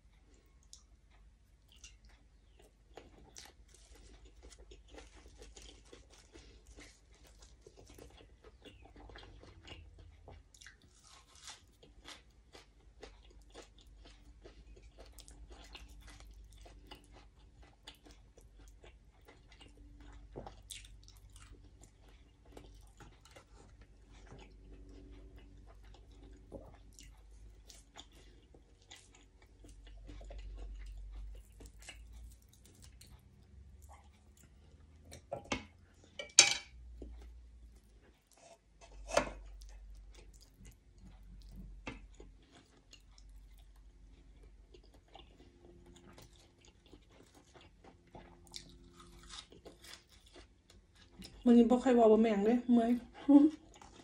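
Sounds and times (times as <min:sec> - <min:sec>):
chewing and mouth sounds: 0:00.1 - 0:36.2, 0:39.4 - 0:51.5, 0:52.9 - 0:54.0.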